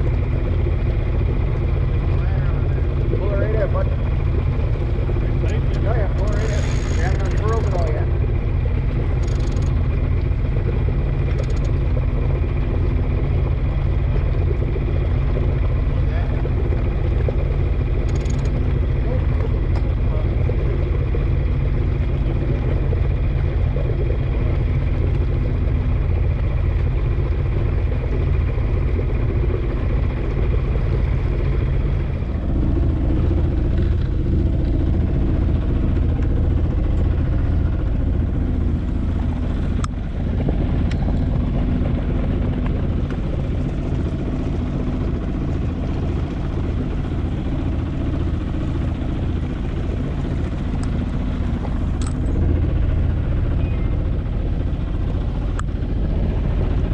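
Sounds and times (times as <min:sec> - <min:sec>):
boat engine running: 0:00.0 - 0:56.9.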